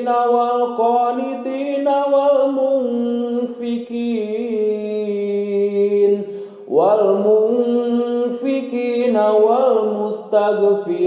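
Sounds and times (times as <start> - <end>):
man chanting recitation: 0.0 - 11.0.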